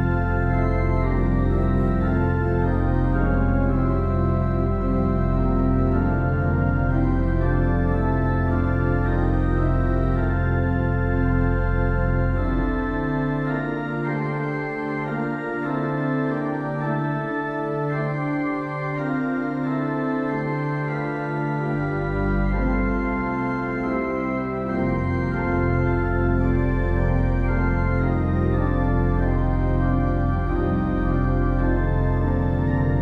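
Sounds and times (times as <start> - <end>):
deep organ pedal bass: 0.0 - 33.0
organ playing held chords: 0.0 - 33.0.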